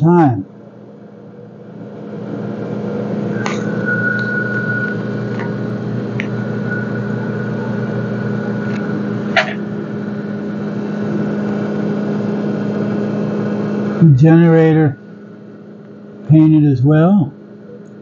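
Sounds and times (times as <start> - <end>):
engine room machinery hum: 0.0 - 18.0.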